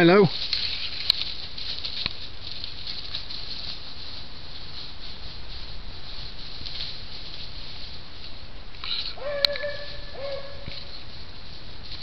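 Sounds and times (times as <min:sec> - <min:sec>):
dry leaves rustling: 0:00.0 - 0:12.0.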